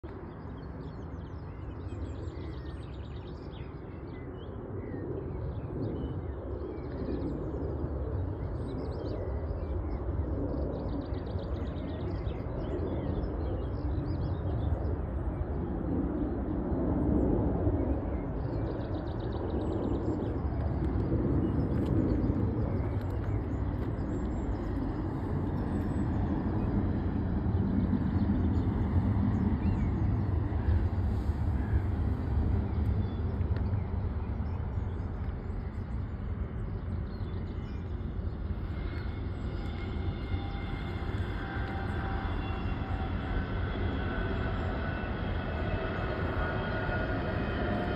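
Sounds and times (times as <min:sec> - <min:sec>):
faint bird chirps and trills: 0:00.0 - 0:47.9
steady low rumble: 0:00.0 - 0:47.9.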